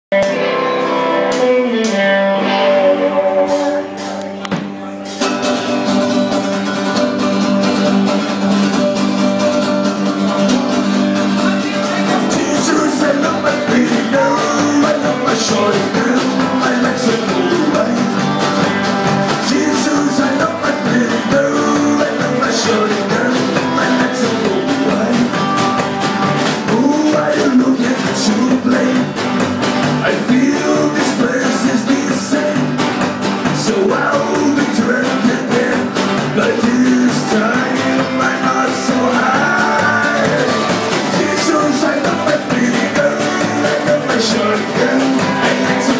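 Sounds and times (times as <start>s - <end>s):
drum kit beat: 0.1s - 45.9s
electric guitar: 0.1s - 45.9s
upright double bass: 0.1s - 45.9s.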